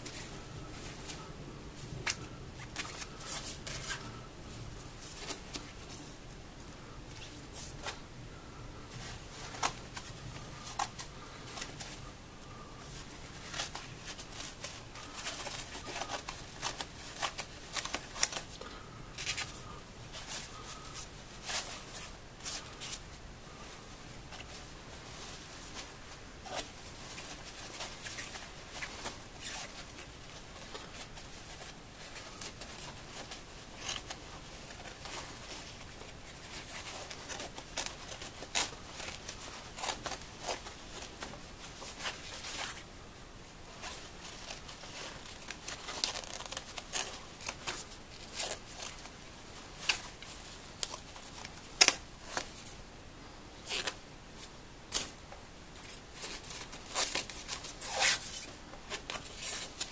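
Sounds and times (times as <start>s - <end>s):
nylon coat rustling: 8.8s - 52.7s, 53.6s - 59.9s.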